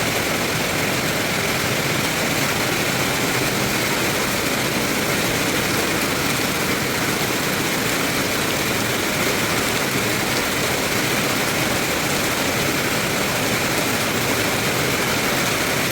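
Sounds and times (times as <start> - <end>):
rain falling steadily: 0.0 - 15.9.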